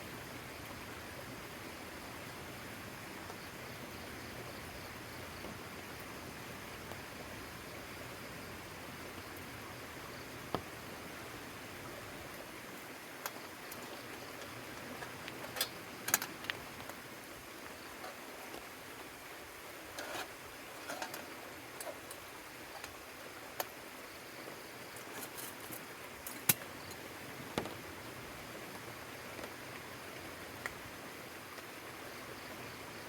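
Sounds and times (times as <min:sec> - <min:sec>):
rain hiss: 0:00.0 - 0:33.0.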